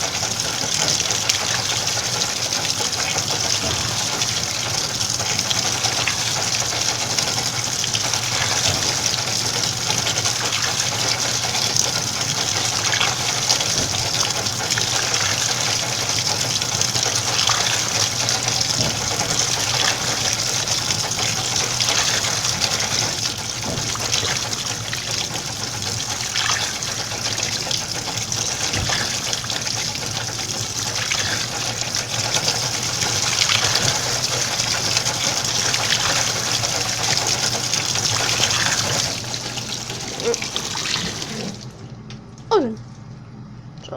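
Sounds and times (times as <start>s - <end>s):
washing machine filling with water: 0.0s - 43.0s.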